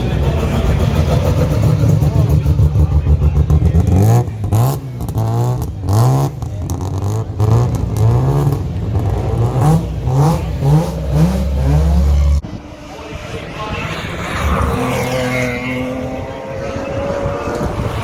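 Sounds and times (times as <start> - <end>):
rally car engine revving hard: 0.0 - 12.4, 14.1 - 18.0.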